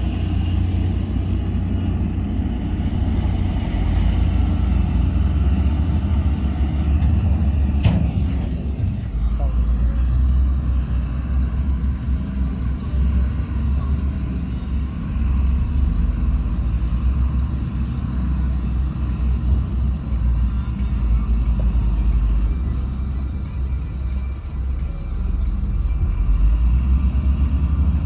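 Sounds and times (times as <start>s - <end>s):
diesel construction machinery rumbling: 0.0s - 28.0s.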